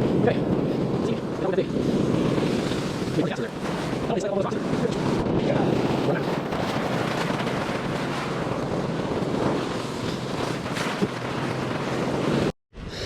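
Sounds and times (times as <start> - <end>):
ocean surf against rocks: 0.0 - 12.5
wind buffeting microphone: 0.0 - 13.0.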